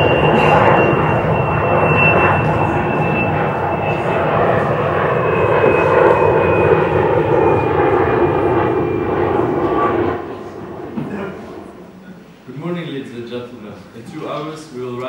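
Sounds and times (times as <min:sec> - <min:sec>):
airplane engine drone: 0:00.0 - 0:12.7.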